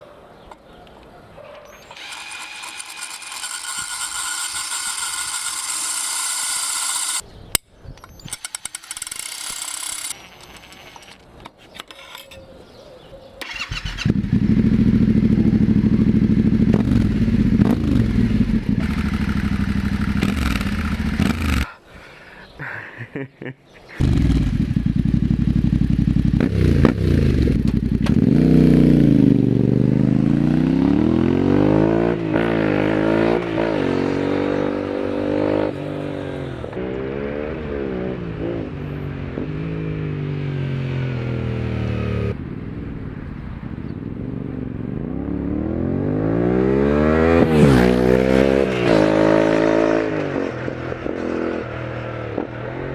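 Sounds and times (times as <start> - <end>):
motorcycle engine idling and revving: 1.7 - 7.2, 13.4 - 21.7, 24.0 - 52.9.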